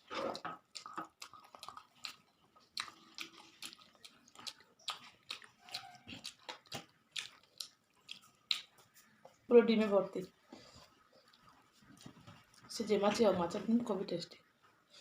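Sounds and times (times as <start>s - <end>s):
close chewing mouth sounds: 0.0s - 9.5s, 10.1s - 12.7s.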